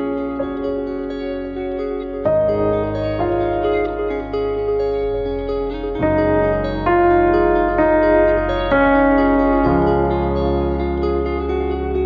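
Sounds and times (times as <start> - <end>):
instrumental music with held chords: 0.0 - 12.0.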